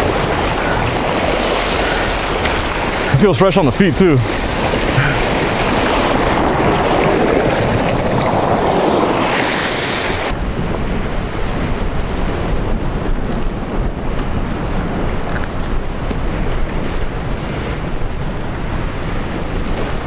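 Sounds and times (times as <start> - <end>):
surf washing against jetty: 0.0 - 20.0
wind buffeting microphone: 0.0 - 20.0.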